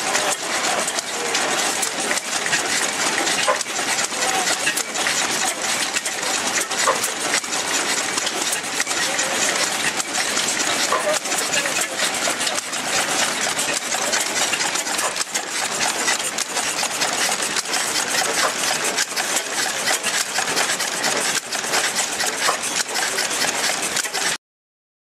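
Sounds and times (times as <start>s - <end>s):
oil engine clattering: 0.0s - 24.4s.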